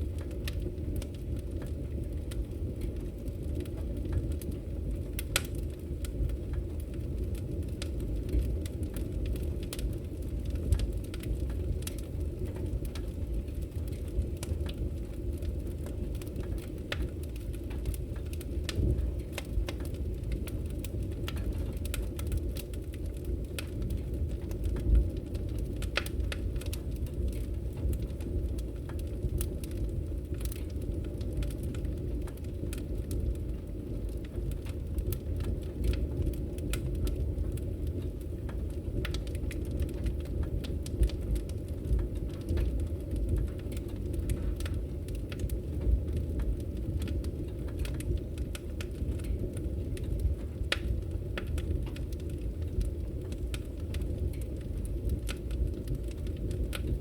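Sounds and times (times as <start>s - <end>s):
crackles and pops of burning logs: 0.0s - 57.0s
roar of fire flames: 0.0s - 57.0s.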